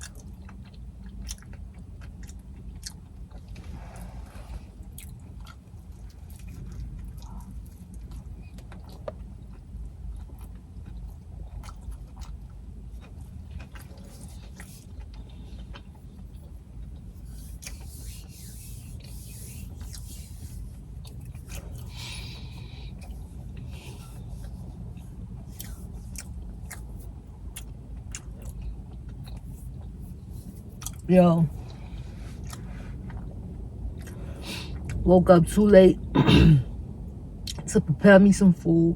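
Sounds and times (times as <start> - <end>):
person chewing: 0.0 - 35.0
steady low hum: 0.0 - 38.9.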